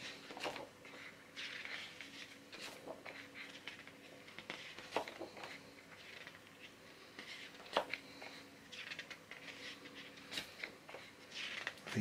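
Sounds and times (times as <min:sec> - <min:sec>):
heavy paper pages rustling: 0:00.0 - 0:12.0.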